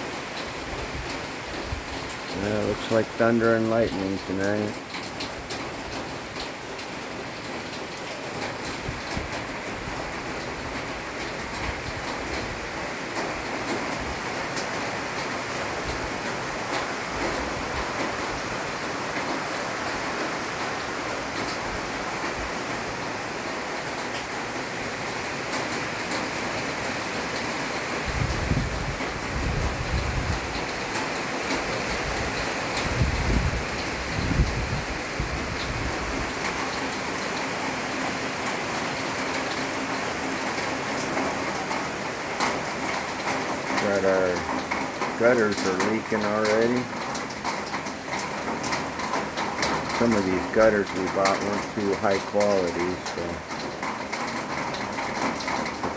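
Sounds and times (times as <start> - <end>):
rain pouring onto leaves: 0.0 - 55.9.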